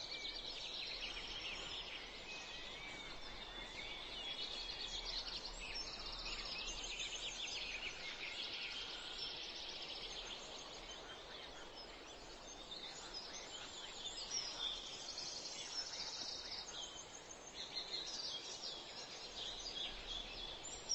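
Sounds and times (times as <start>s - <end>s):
small birds chirping and trilling: 0.0s - 20.9s
steady background hiss: 0.0s - 20.9s.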